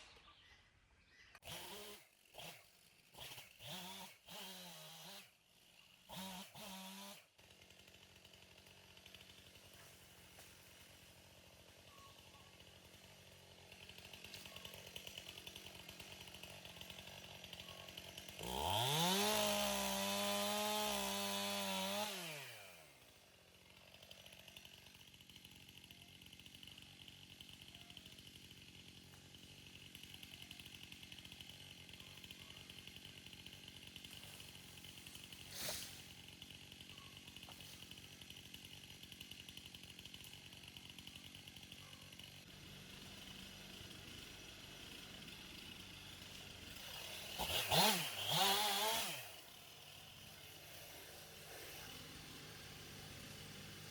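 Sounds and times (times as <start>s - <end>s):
chainsaw revving: 1.4s - 53.9s.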